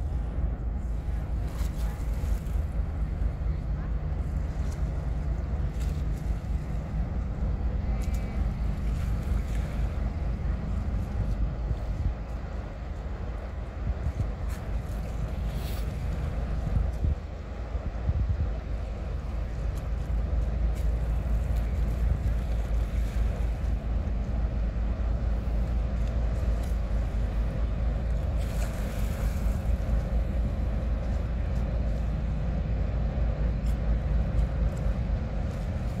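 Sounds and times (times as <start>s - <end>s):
ship engine low rumble: 0.0s - 36.0s
wind buffeting microphone: 0.0s - 36.0s.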